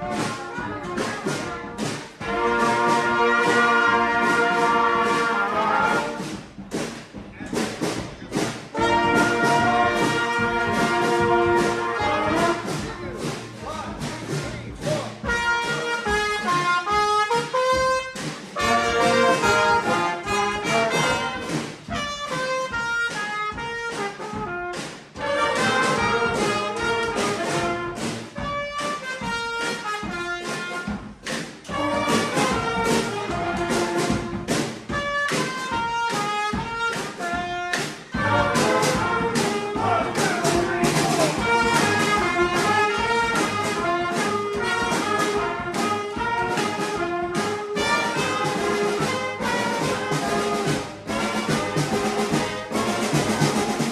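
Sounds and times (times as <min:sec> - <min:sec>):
trumpets and trombones playing riffs: 0:00.0 - 0:06.9, 0:08.3 - 0:53.9
steady drum beat: 0:00.0 - 0:53.9.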